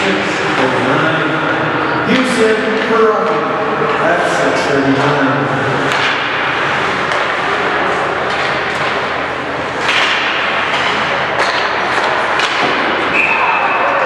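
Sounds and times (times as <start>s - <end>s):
sticks and puck clattering: 2.1s - 14.0s.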